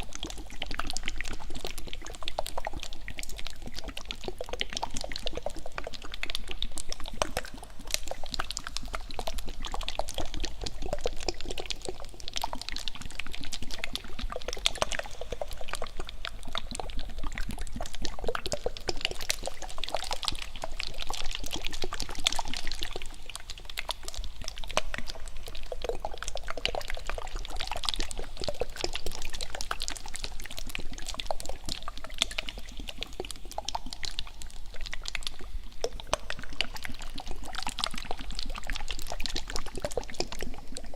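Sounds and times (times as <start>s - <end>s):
wet licking and mouth sounds: 0.0s - 40.9s.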